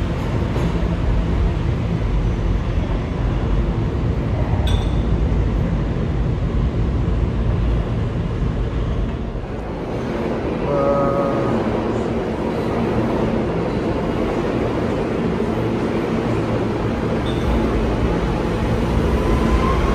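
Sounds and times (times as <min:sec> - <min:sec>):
subway train rumbling: 0:00.0 - 0:19.9.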